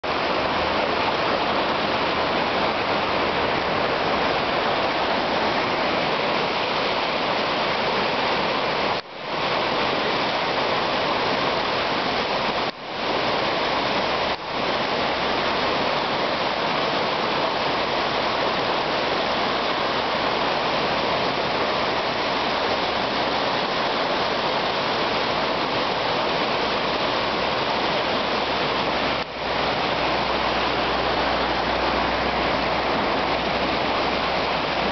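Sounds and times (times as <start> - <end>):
river whitewater rushing: 0.0 - 34.9.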